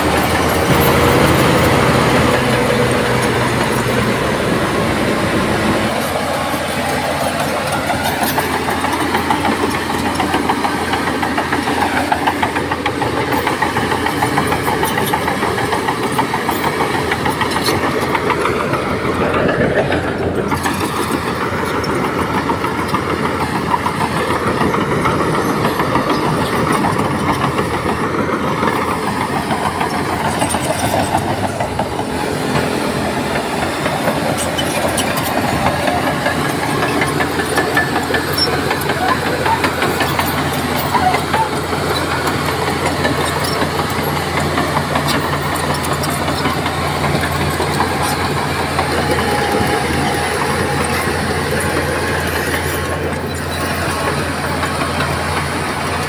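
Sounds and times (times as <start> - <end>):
heavy diesel engine rattling: 0.0 - 56.0.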